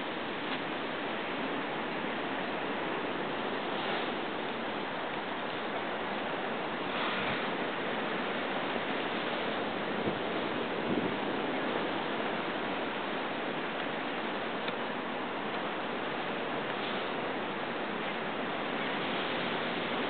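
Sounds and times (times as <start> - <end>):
surf breaking on rocky shore: 0.0 - 20.0.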